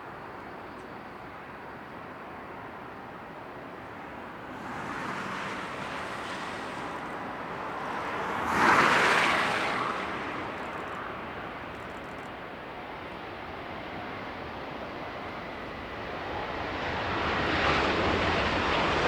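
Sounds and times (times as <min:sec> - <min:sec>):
jet airliner passing: 0:00.0 - 0:19.0.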